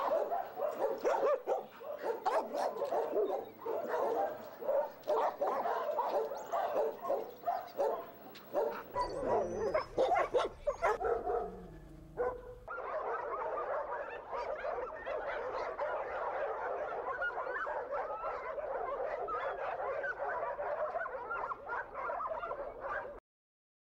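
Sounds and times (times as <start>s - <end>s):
many dogs barking: 0.0s - 23.2s.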